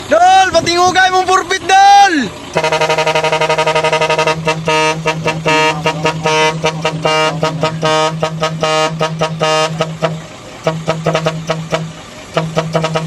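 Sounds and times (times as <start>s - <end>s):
steady low hum: 0.6s - 13.0s
vehicle air horn blasts: 2.5s - 13.0s.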